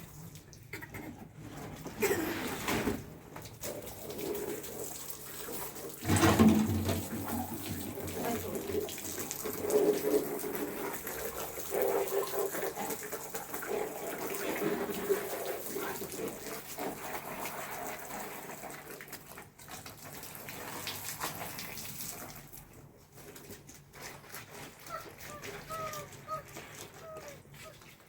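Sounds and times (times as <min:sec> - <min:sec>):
water running and splashing: 0:03.4 - 0:28.0.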